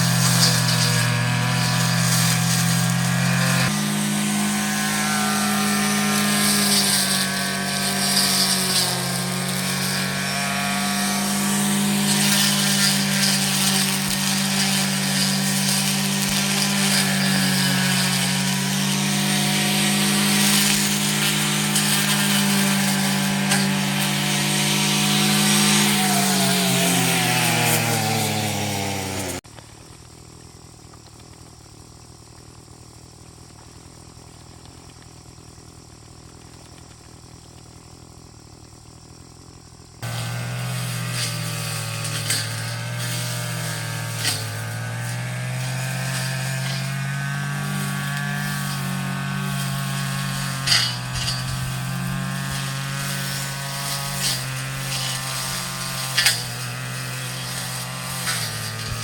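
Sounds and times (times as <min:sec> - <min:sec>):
grass cutter engine running: 0:00.0 - 0:59.0.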